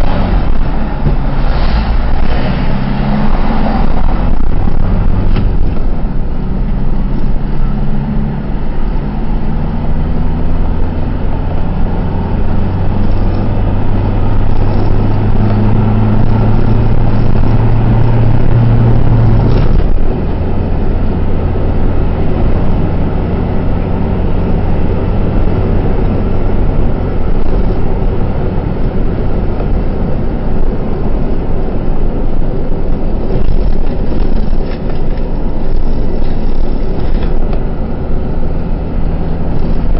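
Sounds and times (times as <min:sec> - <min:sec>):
road rumble: 0:00.0 - 0:39.9
truck engine droning: 0:00.0 - 0:39.9.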